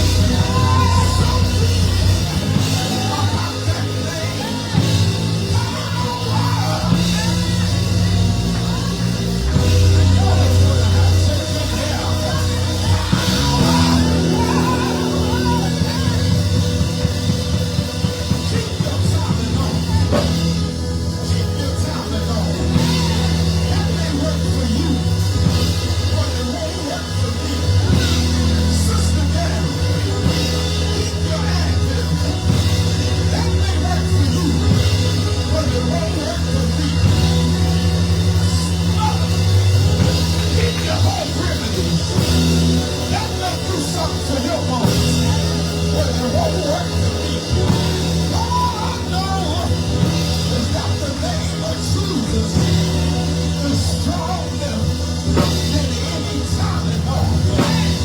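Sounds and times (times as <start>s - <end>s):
drums: 0.0s - 58.0s
held bass notes: 0.0s - 58.0s
live church band music: 0.0s - 58.0s
voices singing: 0.0s - 58.0s.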